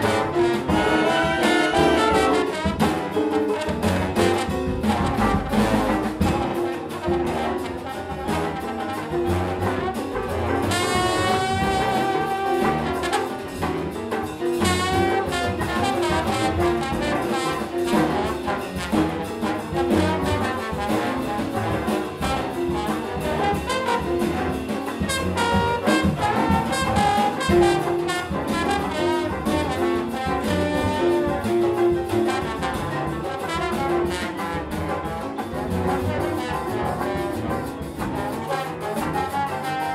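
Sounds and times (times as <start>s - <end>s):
big band jazz: 0.0s - 39.9s
trombone solo: 0.0s - 39.9s.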